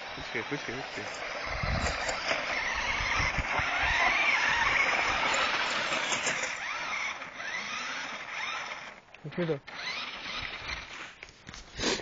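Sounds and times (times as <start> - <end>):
electric motor whining: 0.0 - 11.2
rc car running gear noise: 0.0 - 12.0.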